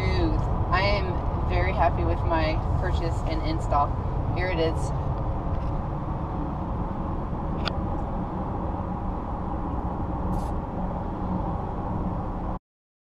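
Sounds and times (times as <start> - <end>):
road and wind noise in car: 0.0 - 12.6.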